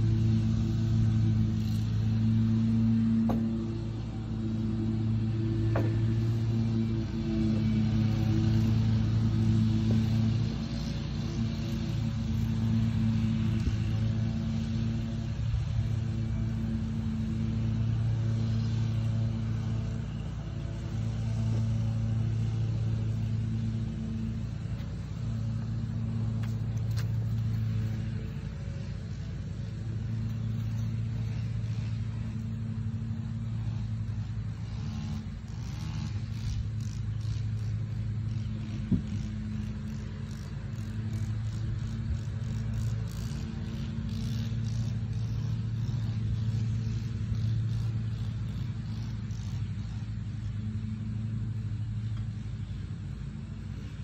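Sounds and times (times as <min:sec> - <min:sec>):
engine idling hum: 0:00.0 - 0:54.0.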